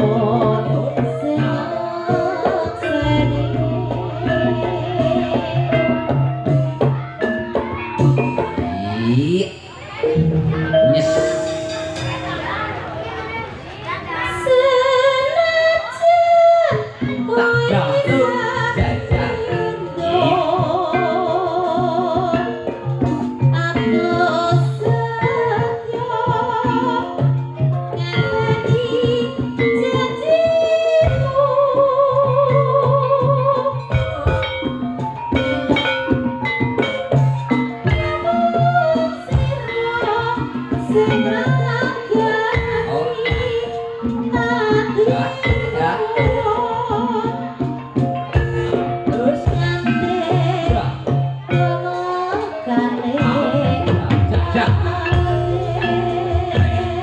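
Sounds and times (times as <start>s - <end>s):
person singing wavering melody: 0.0s - 13.4s, 14.1s - 57.0s
steady drum beat: 0.0s - 57.0s.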